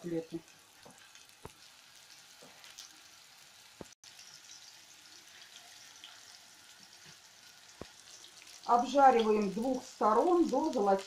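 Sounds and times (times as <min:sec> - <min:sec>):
cutlets sizzling in oil: 0:00.0 - 0:11.0.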